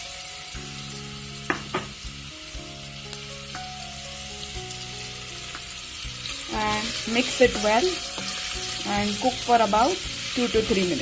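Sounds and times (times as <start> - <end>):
frying in hot oil sizzling: 0.0 - 11.0.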